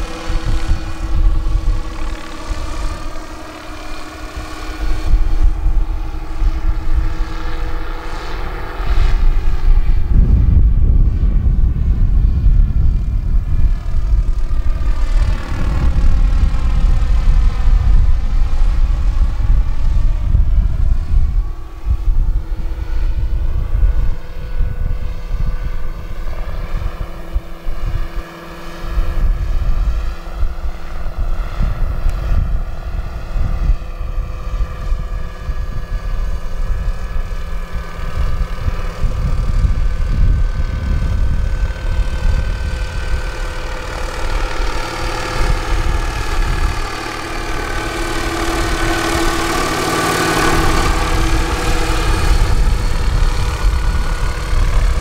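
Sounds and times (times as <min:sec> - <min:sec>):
model helicopter whine: 0:00.0 - 0:55.0.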